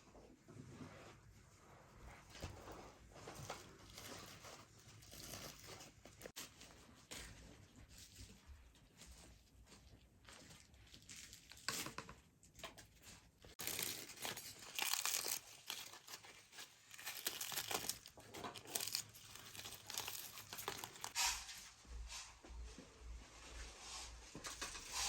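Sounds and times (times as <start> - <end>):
crackling and crinkling: 0.0 - 22.0.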